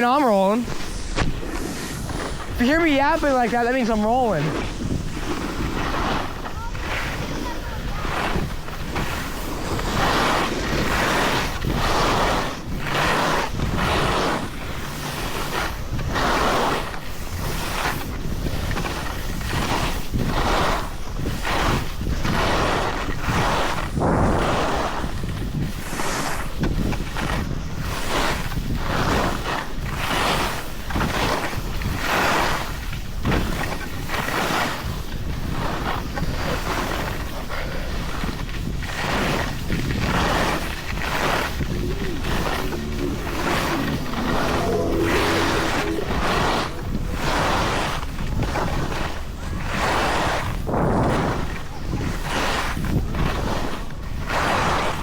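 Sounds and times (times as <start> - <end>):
skis scraping over snow: 0.0 - 55.0
wind buffeting microphone: 0.6 - 55.0.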